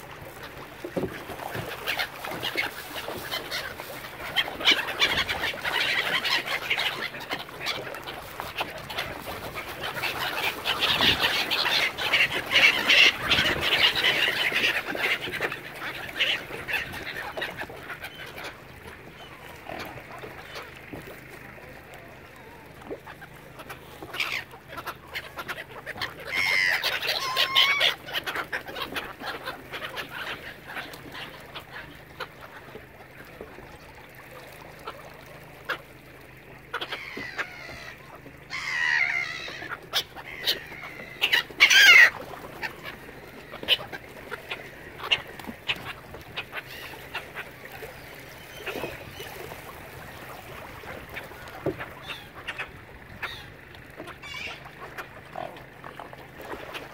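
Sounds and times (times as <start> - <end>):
waterbirds calling: 0.0 - 56.9.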